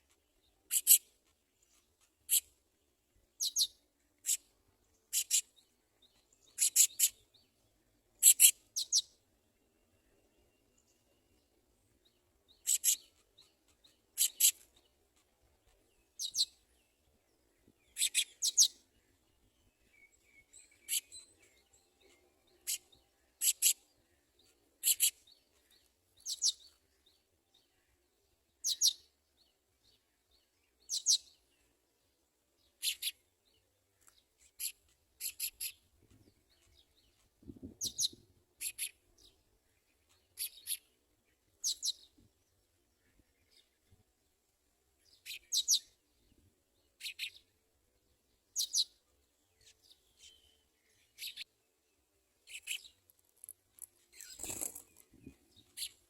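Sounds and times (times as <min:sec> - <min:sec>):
sparrow chirping: 0:00.0 - 0:44.1, 0:44.8 - 0:56.0.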